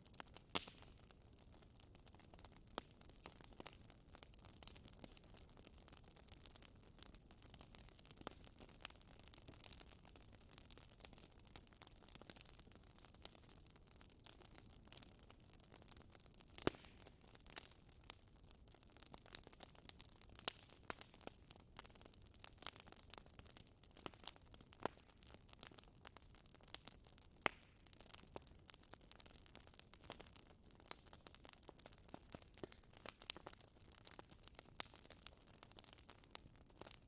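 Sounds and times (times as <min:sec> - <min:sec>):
fire crackling: 0:00.0 - 0:37.0
fire pops and snaps: 0:00.1 - 0:37.0.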